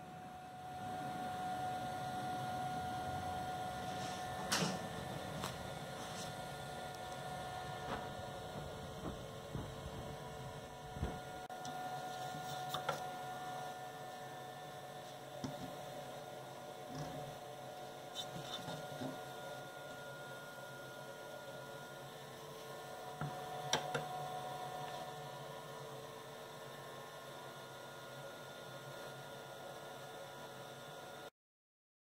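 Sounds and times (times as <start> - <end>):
machine hum: 0.0 - 29.2.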